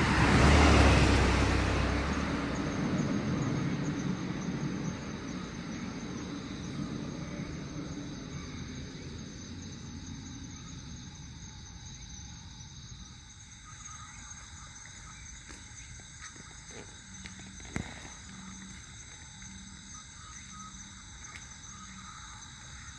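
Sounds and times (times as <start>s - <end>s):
crickets trilling: 0.0s - 22.9s
low rumble of road traffic: 0.0s - 22.9s.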